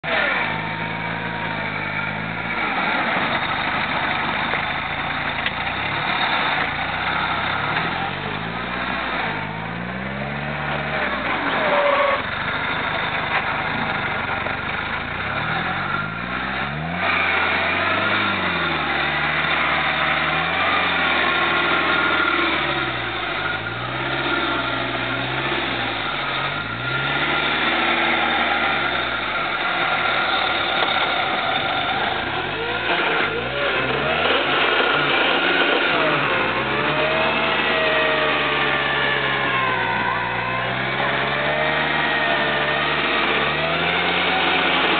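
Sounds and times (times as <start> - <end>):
truck engine revving: 0.0 - 44.9.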